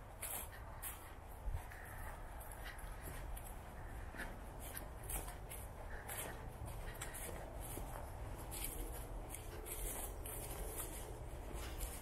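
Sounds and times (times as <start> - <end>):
footsteps on hiking trail: 0.0 - 12.0.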